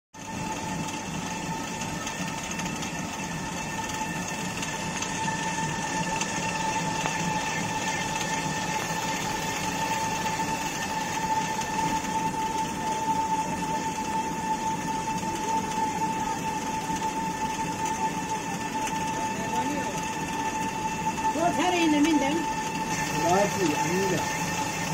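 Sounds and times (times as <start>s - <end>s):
water-driven stone mill grinding: 0.2s - 24.9s.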